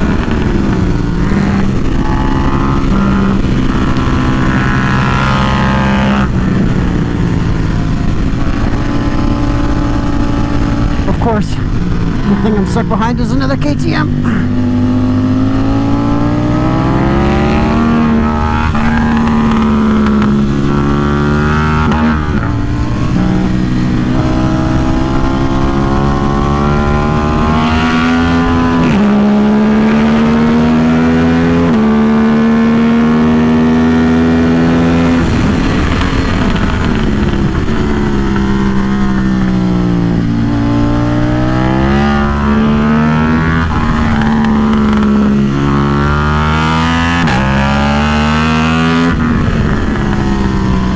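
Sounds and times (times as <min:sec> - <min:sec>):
motorcycle engine accelerating through gears: 0:00.0 - 0:50.9.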